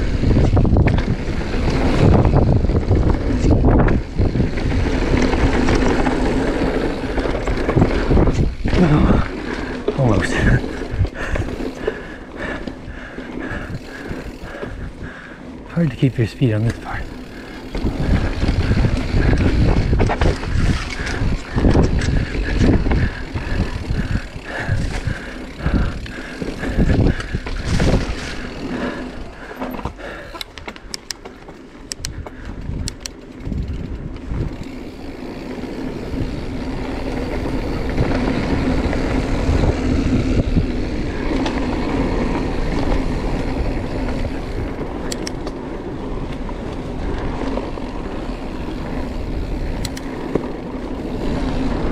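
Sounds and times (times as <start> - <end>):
mountain bike rolling on dirt: 0.0 - 51.9.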